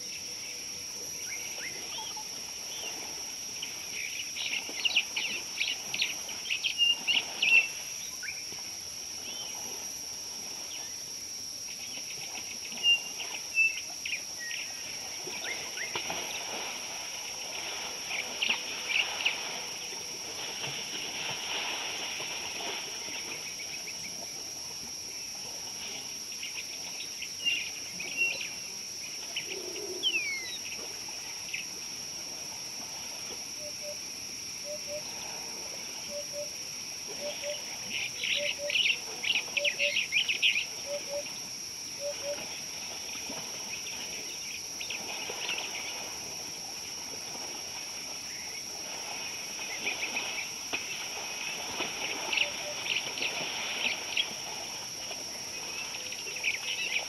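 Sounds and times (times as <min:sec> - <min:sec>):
steady high-pitched hiss: 0:00.0 - 0:57.0.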